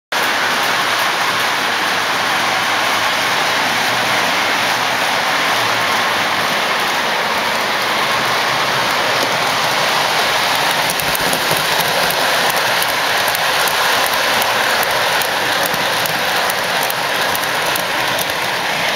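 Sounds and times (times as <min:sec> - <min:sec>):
model train rumbling on track: 0:00.1 - 0:18.9.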